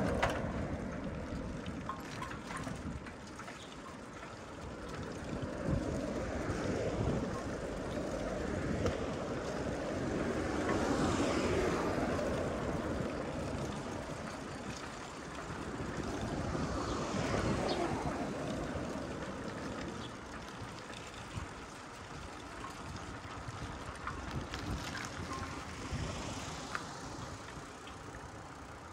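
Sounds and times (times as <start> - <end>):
wind noise: 0.0 - 27.8
rushing street noise: 4.4 - 28.9.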